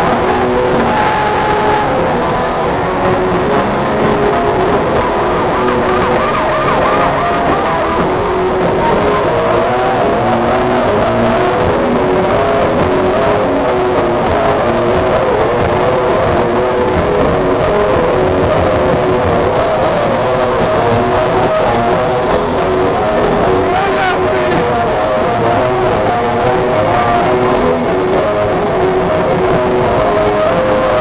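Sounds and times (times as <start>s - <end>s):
distorted electric guitars: 0.0s - 31.0s
drums: 0.0s - 31.0s.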